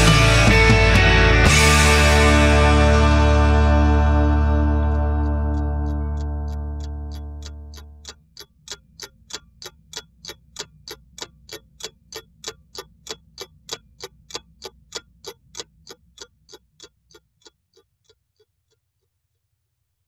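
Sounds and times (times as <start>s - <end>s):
clock-like ticking: 0.0s - 18.8s.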